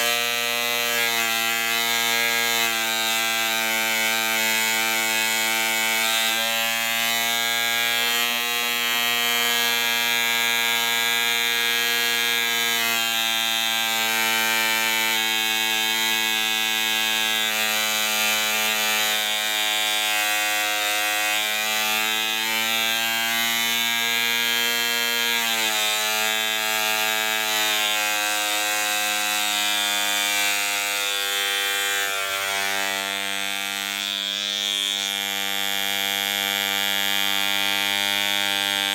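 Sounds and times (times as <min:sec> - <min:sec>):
model aircraft engine buzzing: 0:00.0 - 0:38.9.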